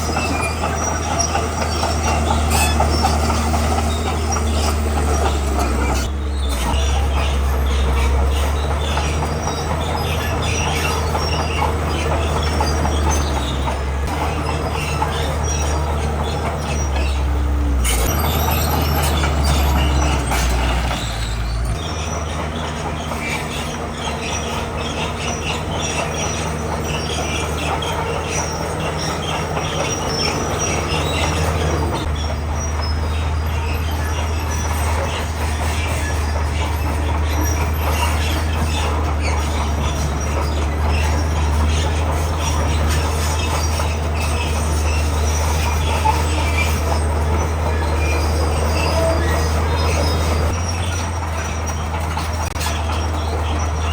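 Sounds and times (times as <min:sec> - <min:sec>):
crawler tracks clattering and squealing: 0:00.0 - 0:53.9
diesel engine running: 0:00.0 - 0:53.9.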